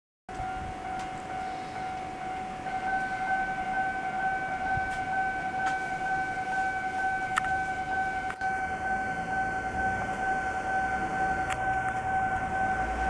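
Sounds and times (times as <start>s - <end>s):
electronic railway warning tone: 0.3s - 13.0s.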